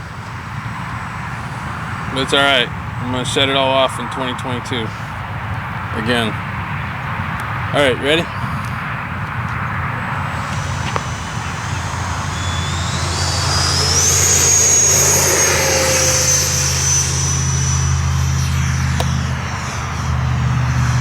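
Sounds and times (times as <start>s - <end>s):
electric ducted fan whine: 0.0s - 7.0s, 8.8s - 21.0s.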